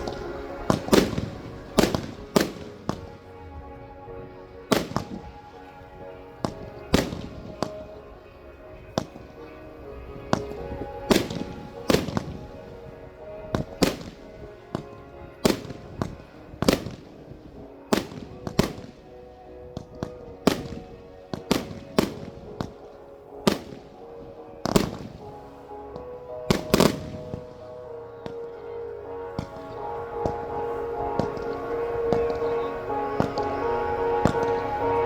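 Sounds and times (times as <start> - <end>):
fireworks bursting with bangs: 0.0 - 35.0.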